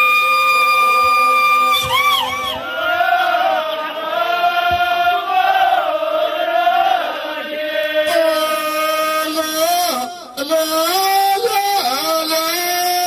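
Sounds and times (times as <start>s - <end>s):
men chanting in unison: 2.5s - 13.0s.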